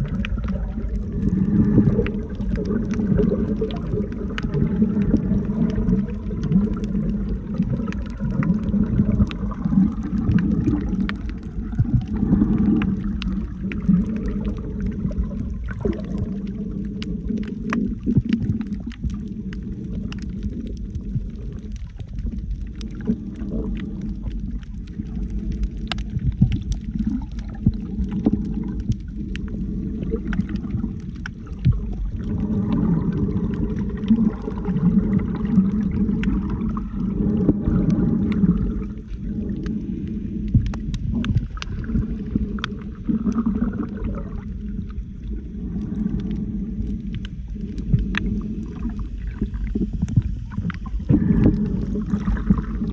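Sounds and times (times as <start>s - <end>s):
faint clicks and crackles: 0.0s - 52.9s
underwater water rumble: 0.0s - 52.9s.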